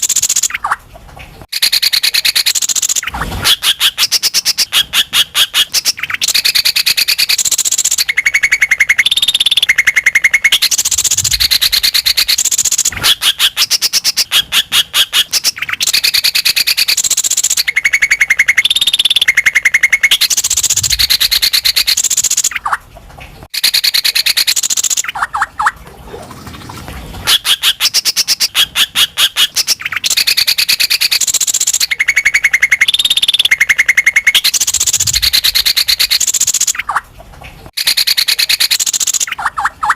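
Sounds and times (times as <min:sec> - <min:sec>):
bird chattering song: 0:01.5 - 0:22.8, 0:23.5 - 0:25.7, 0:27.3 - 0:37.0, 0:37.8 - 0:39.9.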